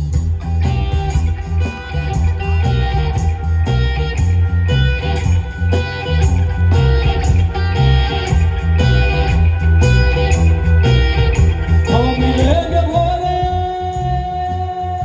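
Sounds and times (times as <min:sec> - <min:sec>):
drums: 0:00.0 - 0:15.0
heavy pulsing bass: 0:00.0 - 0:15.0
plucked guitar line: 0:00.0 - 0:15.0.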